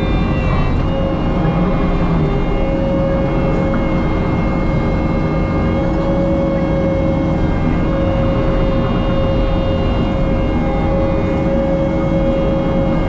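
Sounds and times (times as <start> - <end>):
diesel engine rumbling: 0.0 - 13.0
hydraulic whine: 0.0 - 13.0.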